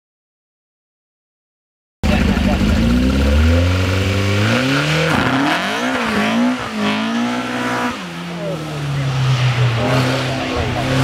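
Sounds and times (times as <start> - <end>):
sports car accelerating hard: 2.0 - 11.0.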